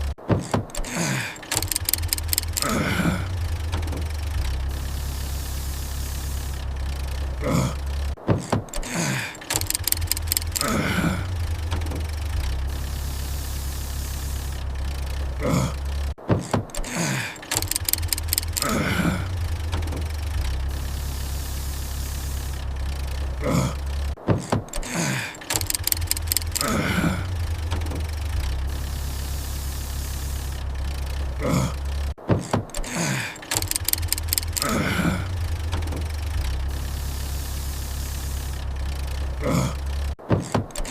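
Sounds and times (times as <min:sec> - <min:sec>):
starter cranking clicks: 0:00.0 - 0:40.9
falling tones of engine dying: 0:00.8 - 0:08.2, 0:08.8 - 0:16.2, 0:16.8 - 0:24.2, 0:24.8 - 0:32.2, 0:32.8 - 0:40.2
steady low hum: 0:01.0 - 0:08.2, 0:09.0 - 0:16.2, 0:17.1 - 0:24.2, 0:25.0 - 0:32.2, 0:33.0 - 0:40.2.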